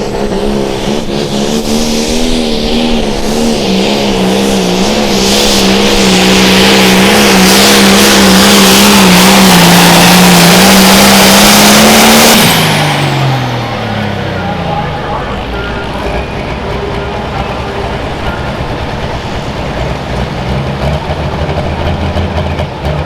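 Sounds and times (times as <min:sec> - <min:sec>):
diesel tractor engine at full throttle: 0:00.0 - 0:23.0.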